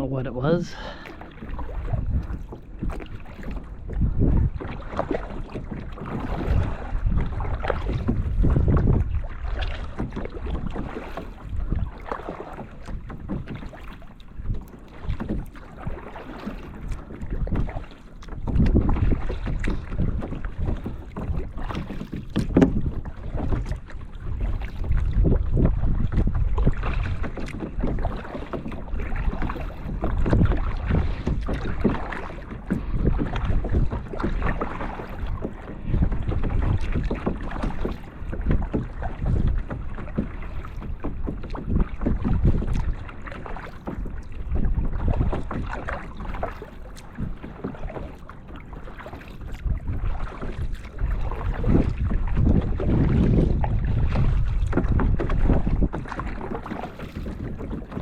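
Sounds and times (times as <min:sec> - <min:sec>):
wind buffeting microphone: 0:00.0 - 0:48.2, 0:49.4 - 0:58.0
paddle splashing in water: 0:00.0 - 0:58.0.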